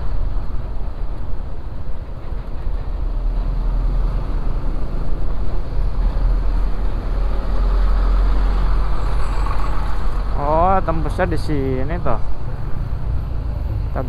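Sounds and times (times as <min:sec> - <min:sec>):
motorcycle engine and road noise: 0:00.0 - 0:14.0.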